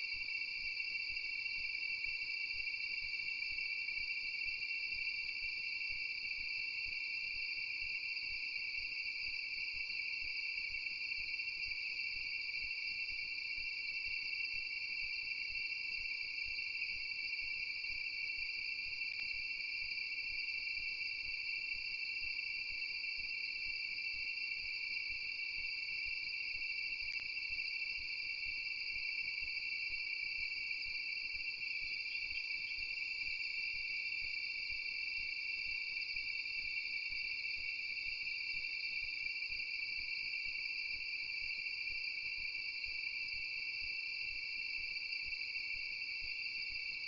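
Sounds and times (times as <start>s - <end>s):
night insects trilling: 0.0s - 47.0s.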